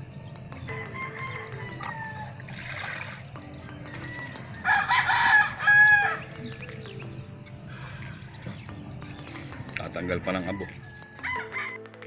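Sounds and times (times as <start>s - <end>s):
rooster crowing: 0.0s - 11.8s.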